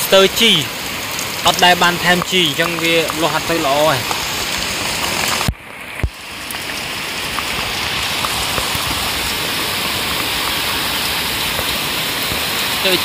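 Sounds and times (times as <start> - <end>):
rain falling on pond: 0.0 - 13.0.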